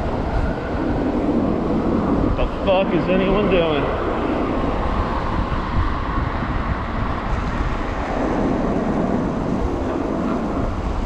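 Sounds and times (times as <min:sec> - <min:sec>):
road and traffic noise: 0:00.0 - 0:11.0
wind rush on microphone: 0:00.0 - 0:11.0.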